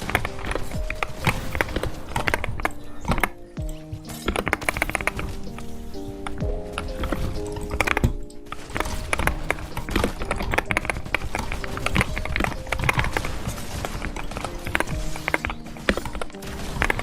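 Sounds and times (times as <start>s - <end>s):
background music: 0.0s - 17.0s
keyboard keys clacking: 0.0s - 17.0s.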